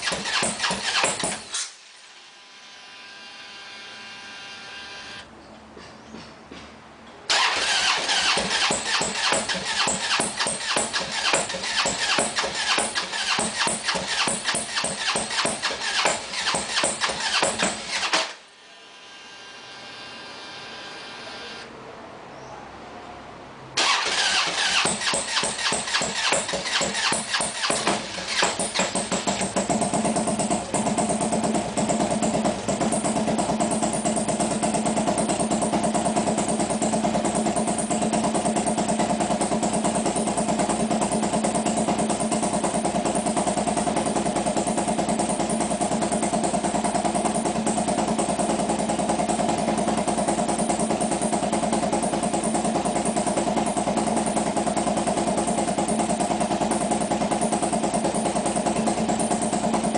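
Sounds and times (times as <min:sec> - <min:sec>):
motorcycle engine idling: 0:00.0 - 0:01.6, 0:07.3 - 0:18.3, 0:23.8 - 0:59.9.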